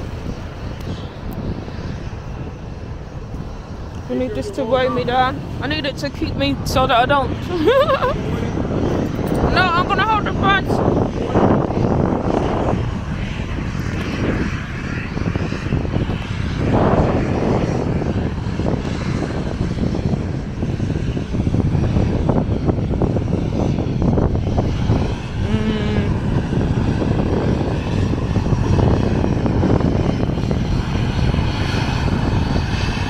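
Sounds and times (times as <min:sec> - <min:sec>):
jet engines running: 0:00.0 - 0:33.0
wind buffeting microphone: 0:00.0 - 0:33.0.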